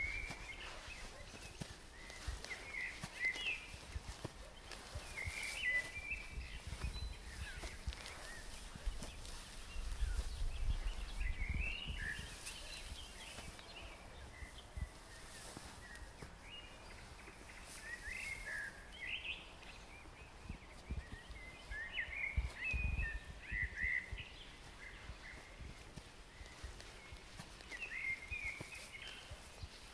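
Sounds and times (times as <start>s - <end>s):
songbirds chirping and twittering: 0.0s - 29.9s.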